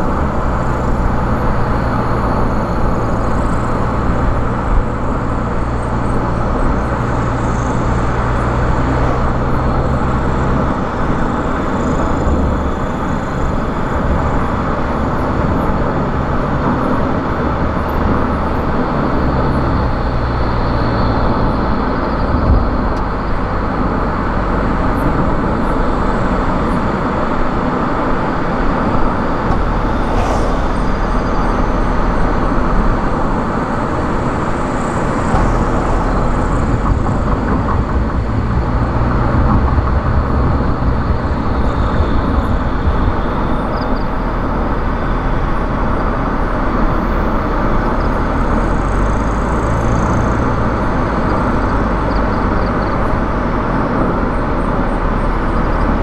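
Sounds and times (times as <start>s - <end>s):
car engine drone: 0.0s - 56.0s
tyre and road rumble: 0.0s - 56.0s.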